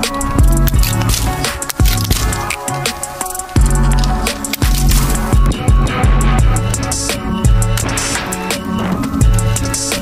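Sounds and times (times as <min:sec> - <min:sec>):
drum-kit beat: 0:00.0 - 0:10.0.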